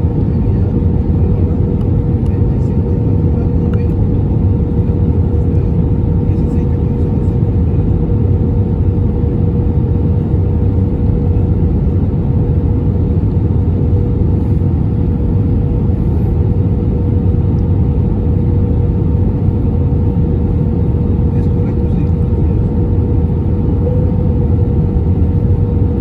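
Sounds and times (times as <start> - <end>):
airplane cabin engine rumble: 0.0 - 26.0
constant hum: 0.0 - 26.0.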